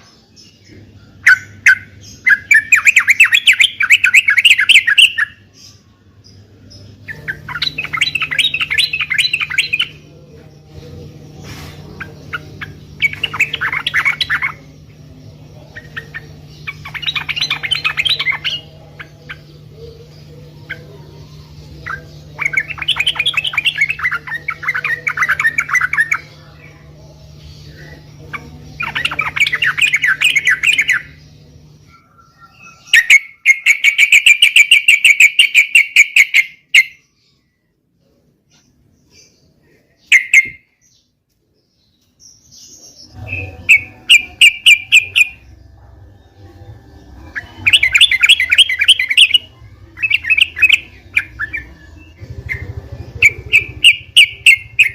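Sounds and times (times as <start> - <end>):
bird chattering song: 0.0 - 37.6, 38.5 - 54.9
faint low hum: 0.0 - 54.9.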